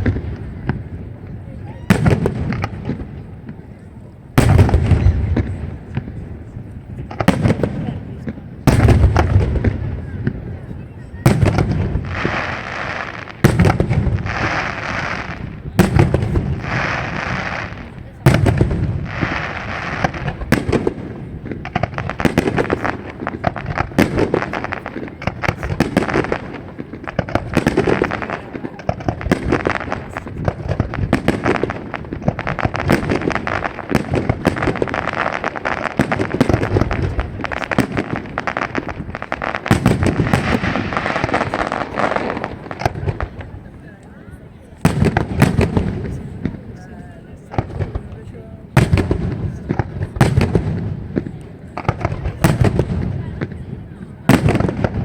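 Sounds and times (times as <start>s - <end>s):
crackling firework tail: 0.0s - 55.0s
rapid firework barrage: 0.0s - 55.0s.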